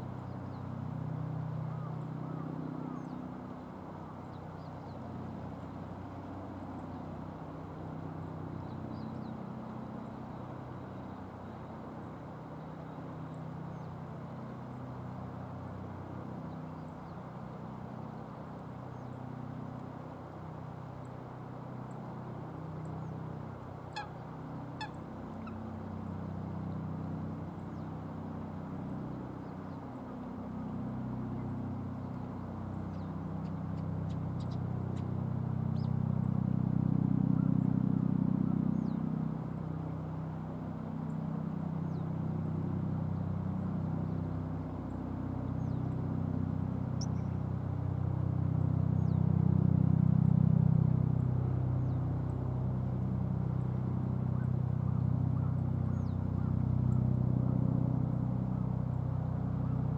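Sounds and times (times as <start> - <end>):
low engine drone: 0.0 - 59.9.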